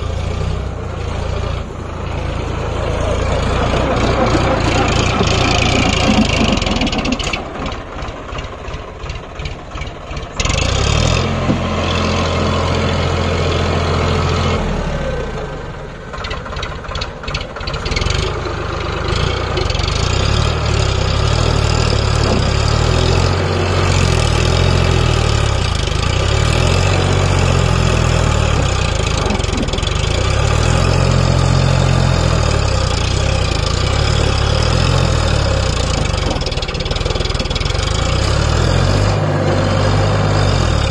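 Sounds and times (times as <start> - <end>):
diesel tractor engine: 0.0 - 40.9.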